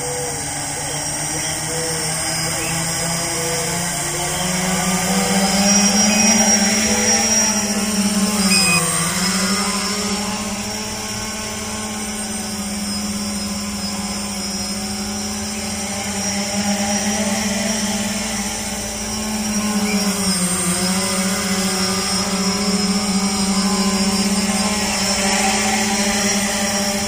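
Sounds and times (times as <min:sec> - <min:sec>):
drone motors and propellers droning: 0:00.0 - 0:27.0.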